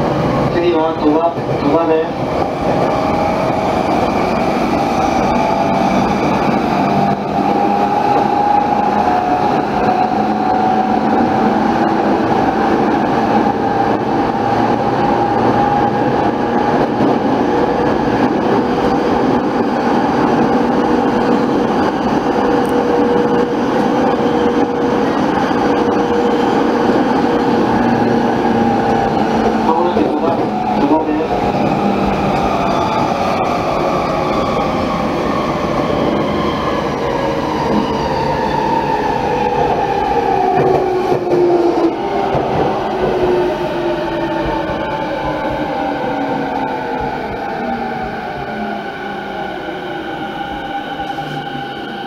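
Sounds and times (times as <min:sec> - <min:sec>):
train wheels rumbling on rail: 0:00.0 - 0:52.0
train whine: 0:00.0 - 0:52.0.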